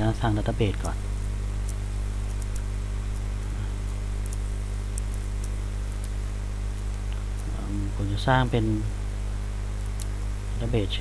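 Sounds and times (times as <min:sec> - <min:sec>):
low electrical hum: 0:00.0 - 0:11.0
recording hiss: 0:00.0 - 0:11.0.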